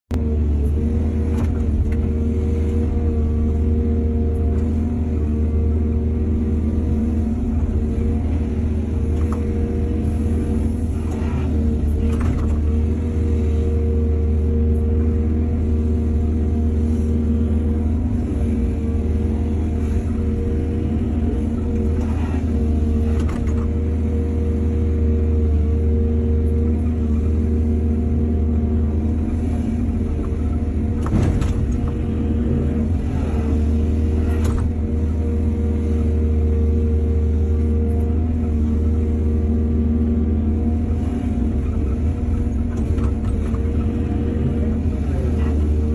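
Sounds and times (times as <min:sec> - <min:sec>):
excavator diesel engine rumbling: 0:00.1 - 0:45.9.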